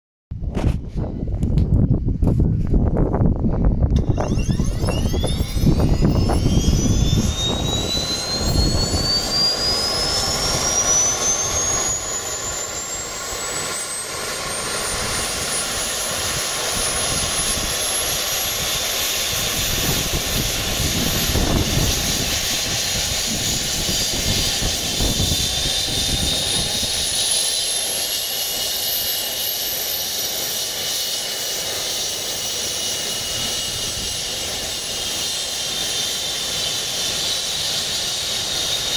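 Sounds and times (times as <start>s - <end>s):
helicopter turbine whine rising: 0.4s - 38.9s
second rising whine: 0.6s - 38.9s.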